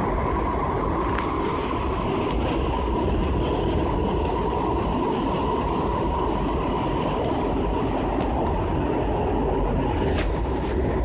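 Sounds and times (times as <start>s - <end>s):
train wheels on track: 0.0s - 11.0s.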